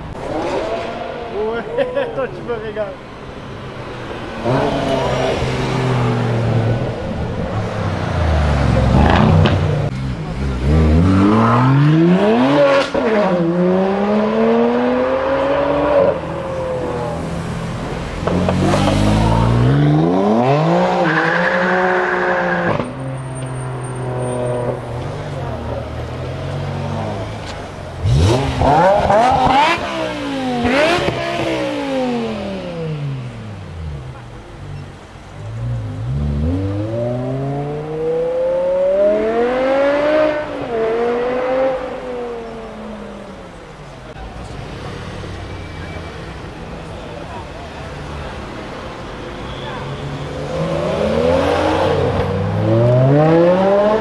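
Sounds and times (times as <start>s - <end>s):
car engine revving: 3.6s - 23.0s, 23.7s - 34.2s, 35.4s - 45.6s, 50.1s - 54.0s.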